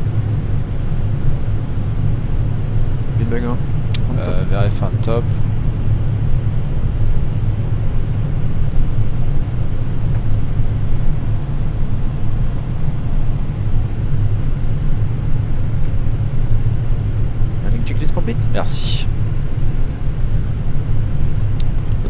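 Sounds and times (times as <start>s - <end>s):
cockpit airflow and engine rumble: 0.0s - 22.0s.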